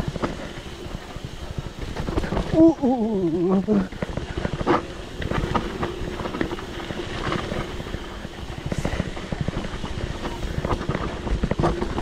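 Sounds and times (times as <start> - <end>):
bike rattling: 0.0 - 12.0
bike tyres on dirt and rocks: 0.0 - 12.0.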